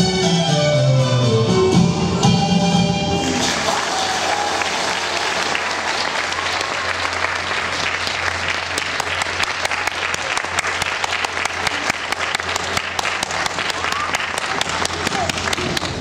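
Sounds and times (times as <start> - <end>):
audience applauding: 3.2 - 16.0.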